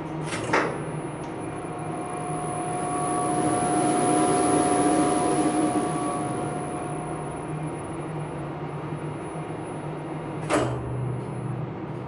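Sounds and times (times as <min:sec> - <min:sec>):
elevator machinery winding down: 0:00.0 - 0:12.0
low steady hum: 0:00.0 - 0:12.0.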